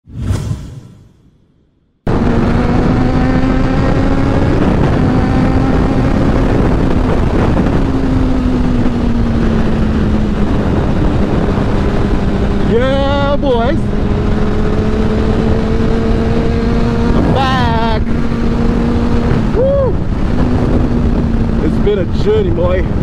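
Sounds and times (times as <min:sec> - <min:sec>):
motorcycle engine running: 0:02.1 - 0:23.0
wind noise over microphone: 0:02.1 - 0:23.0.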